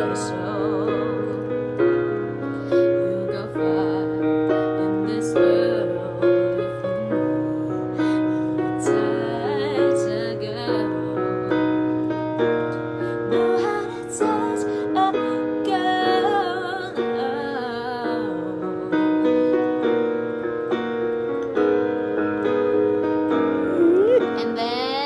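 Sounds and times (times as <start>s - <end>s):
piano ballad chords: 0.0s - 25.0s.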